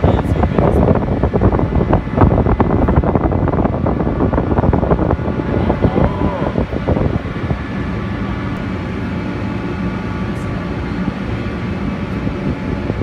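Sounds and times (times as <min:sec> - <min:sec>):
ferry engines humming: 0:00.0 - 0:13.0.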